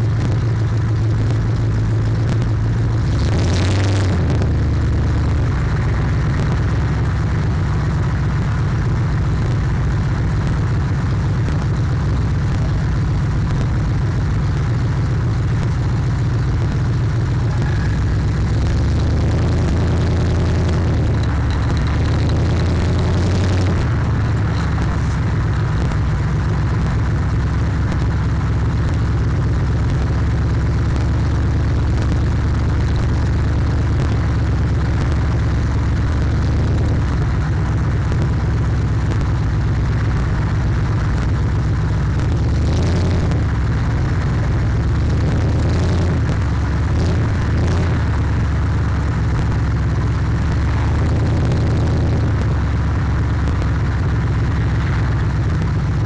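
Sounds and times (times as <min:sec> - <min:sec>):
car engine and exhaust running: 0:00.0 - 0:56.0.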